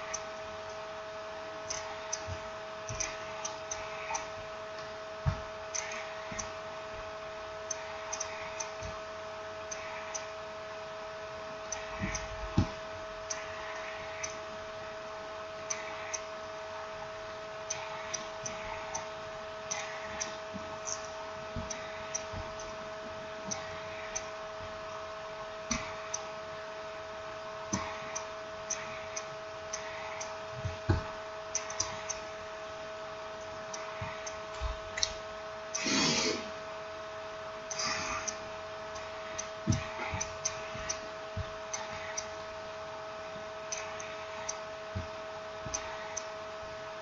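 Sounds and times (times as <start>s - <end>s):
steady electrical hum: 0.0s - 47.0s.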